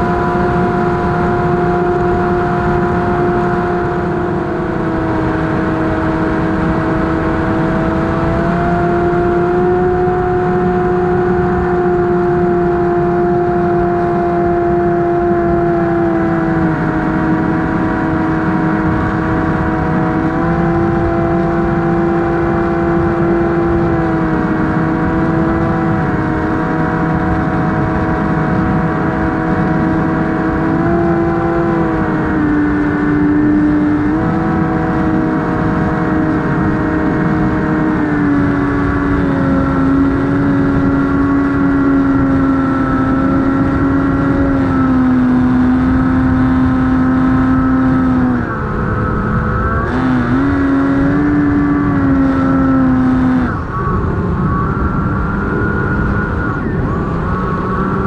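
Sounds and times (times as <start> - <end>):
electric motor and propeller whining: 0.0 - 58.0
wind rush: 0.0 - 58.0.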